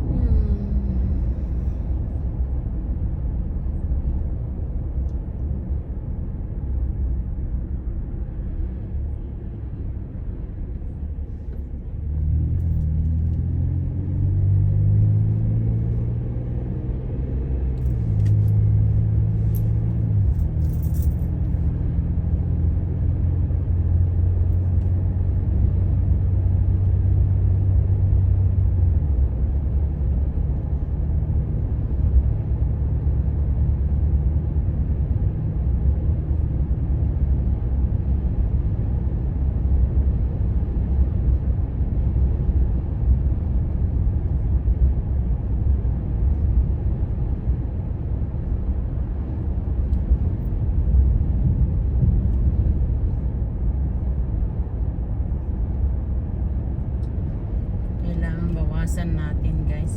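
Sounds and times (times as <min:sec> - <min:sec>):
road rumble: 0:00.0 - 0:59.9
car engine: 0:06.6 - 0:59.9.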